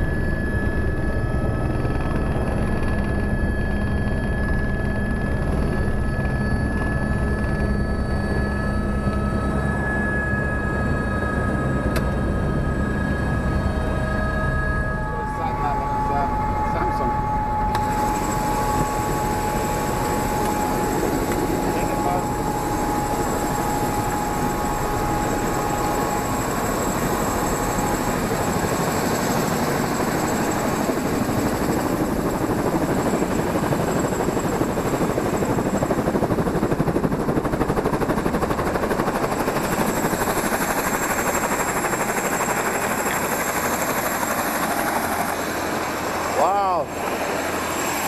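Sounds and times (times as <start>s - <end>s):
helicopter engine whine: 0.0s - 48.0s
helicopter rotor chop: 0.0s - 48.0s.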